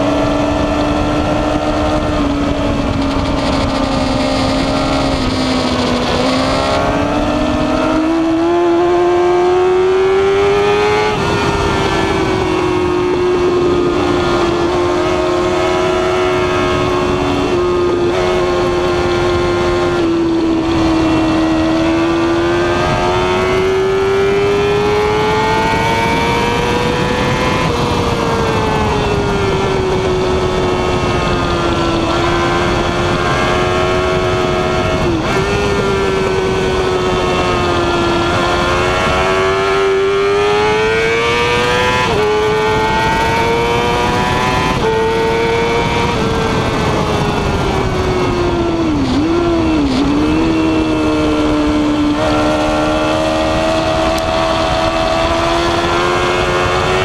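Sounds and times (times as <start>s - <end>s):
motorcycle engine at high revs: 0.0s - 57.0s
wind rushing over microphone: 0.0s - 57.0s.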